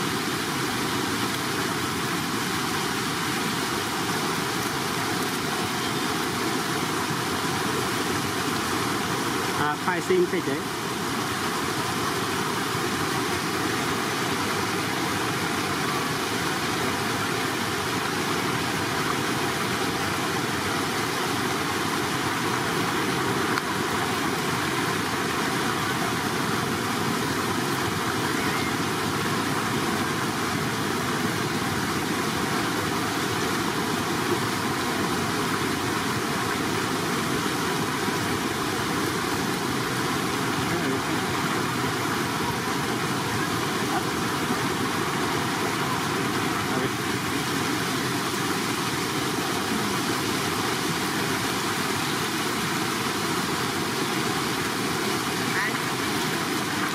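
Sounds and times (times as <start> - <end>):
shallow flowing water: 0.0 - 56.9.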